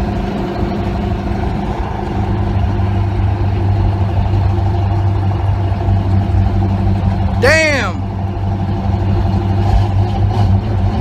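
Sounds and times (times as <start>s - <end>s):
pickup truck engine and exhaust: 0.0s - 11.0s.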